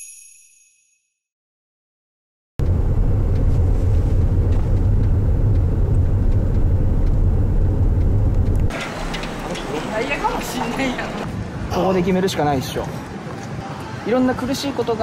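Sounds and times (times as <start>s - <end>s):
street rumble: 2.6s - 15.0s.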